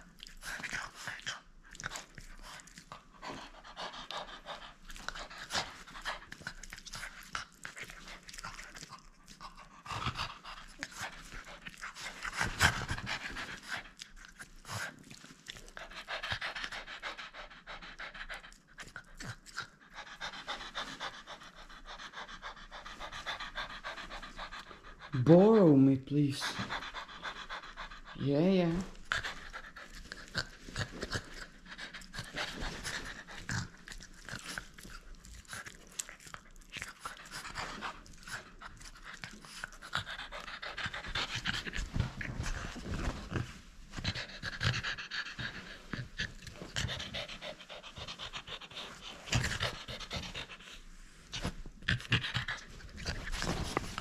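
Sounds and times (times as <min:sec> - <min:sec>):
dog panting hard: 0:00.0 - 0:54.0.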